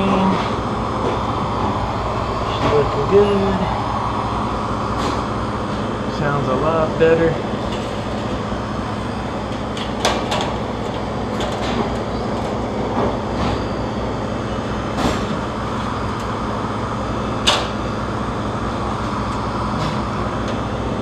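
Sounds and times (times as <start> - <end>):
compressor humming and whooshing: 0.0 - 21.0.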